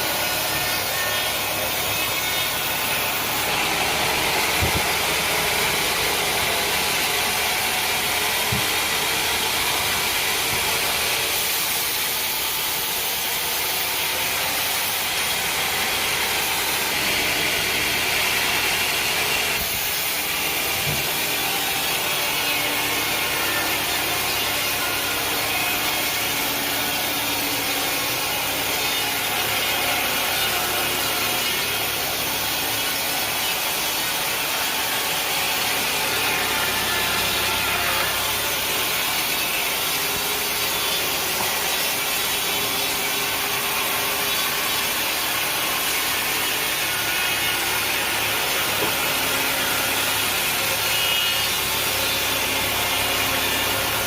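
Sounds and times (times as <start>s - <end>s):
saw cutting through log: 0.0s - 54.0s.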